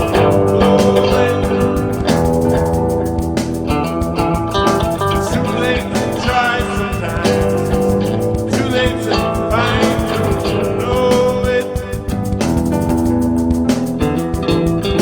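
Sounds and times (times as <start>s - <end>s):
guitar-led band jam: 0.0s - 15.0s.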